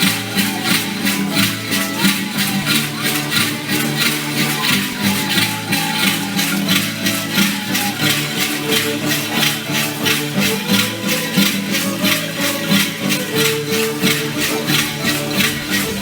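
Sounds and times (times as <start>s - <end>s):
rattles shaken in a beat: 0.0s - 16.0s.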